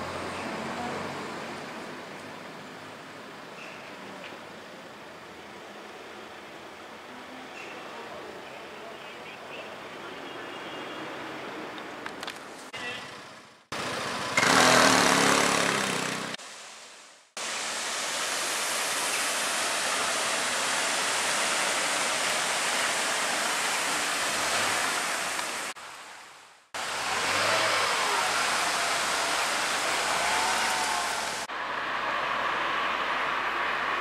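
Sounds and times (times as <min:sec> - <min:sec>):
street traffic rushing: 0:00.0 - 0:16.4, 0:17.4 - 0:34.0
vehicles passing: 0:00.0 - 0:16.4, 0:18.0 - 0:34.0.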